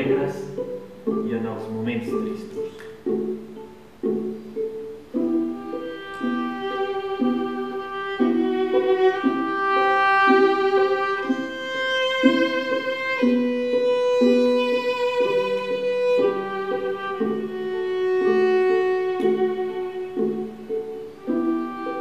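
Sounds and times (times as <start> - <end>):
repeated short accompaniment notes: 0.0 - 22.0
violin melody: 0.0 - 22.0.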